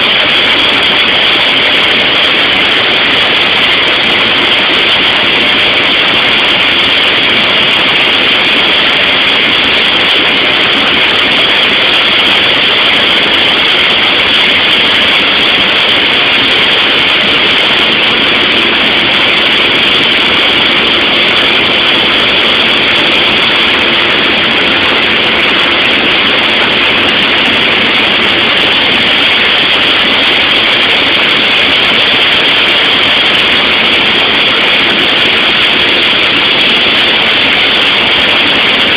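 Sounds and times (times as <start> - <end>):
plane engine drone in cabin: 0.0 - 38.9.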